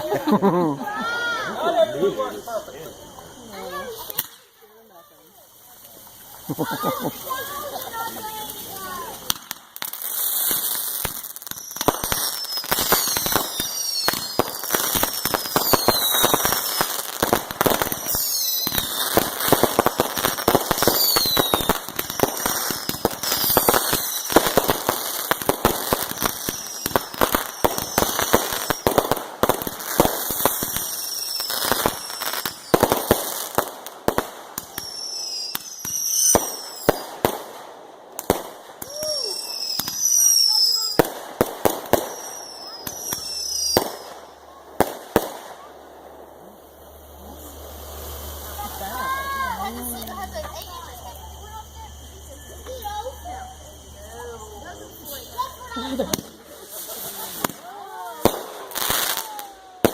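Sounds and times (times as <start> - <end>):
fireworks crackling pops: 0.0 - 59.9
fireworks whistling: 0.0 - 59.9.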